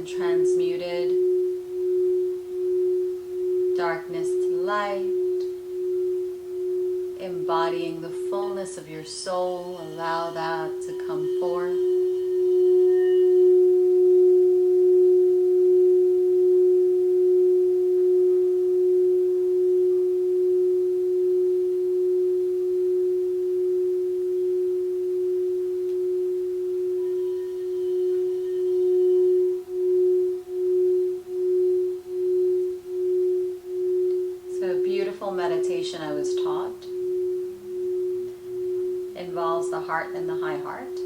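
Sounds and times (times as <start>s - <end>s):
crystal singing bowl tone: 0.0s - 41.0s.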